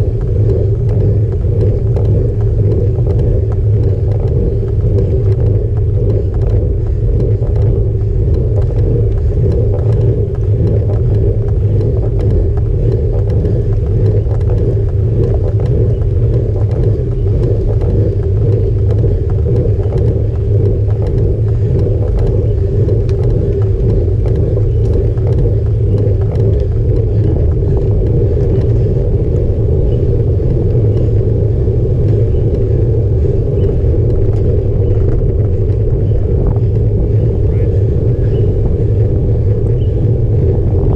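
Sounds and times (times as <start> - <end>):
bike tyres rolling on rough pavement: 0.0 - 40.9.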